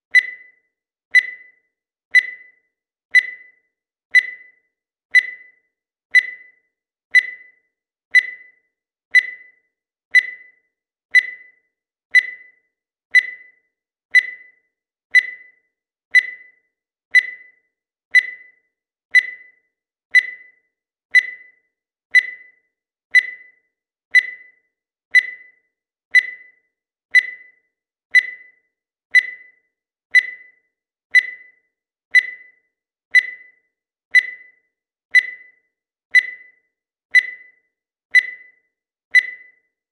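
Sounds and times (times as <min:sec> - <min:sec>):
digital timer beeping: 0:00.0 - 0:39.9.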